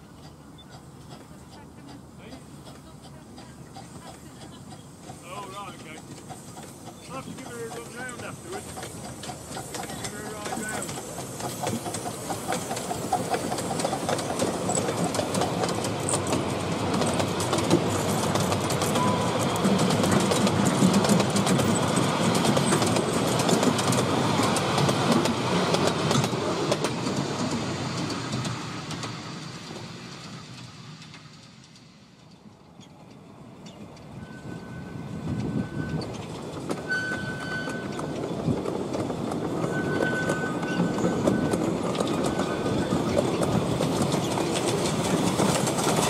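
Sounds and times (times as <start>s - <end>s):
steam train passing: 0.0s - 46.0s
wheels clicking over rail joints: 0.0s - 46.0s.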